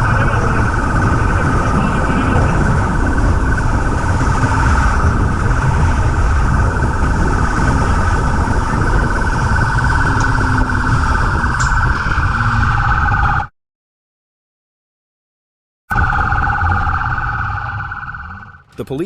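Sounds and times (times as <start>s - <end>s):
steady high tone: 0.0s - 13.5s, 15.9s - 19.0s.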